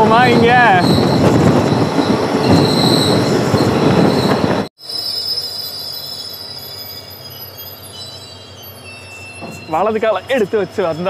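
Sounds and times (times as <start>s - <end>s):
train wheels on rails: 0.0s - 11.0s
high brake squeal: 0.6s - 11.0s.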